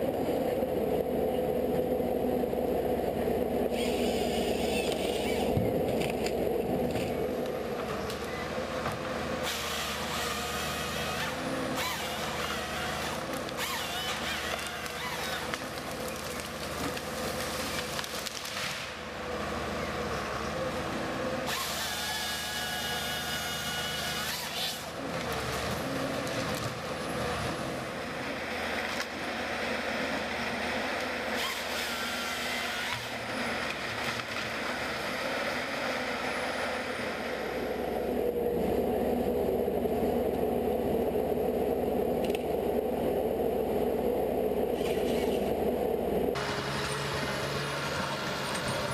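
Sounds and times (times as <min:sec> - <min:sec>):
machinery running: 0:00.0 - 0:48.9.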